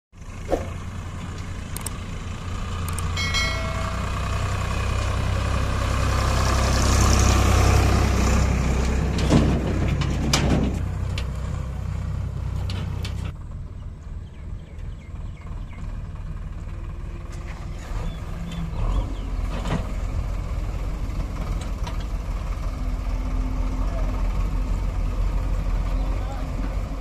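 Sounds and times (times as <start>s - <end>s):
tractor diesel engine under load: 0.2s - 27.0s.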